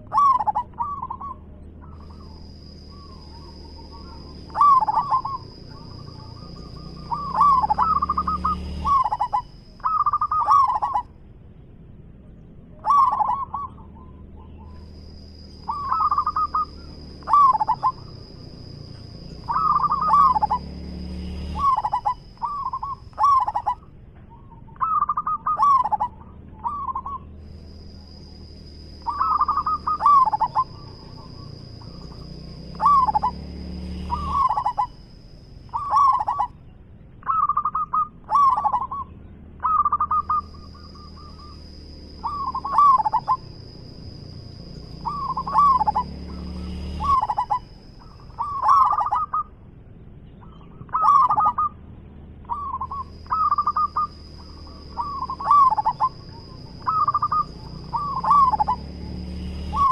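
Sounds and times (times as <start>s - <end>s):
dove cooing: 0.0s - 11.2s, 12.7s - 49.6s, 50.4s - 51.8s, 52.4s - 59.9s.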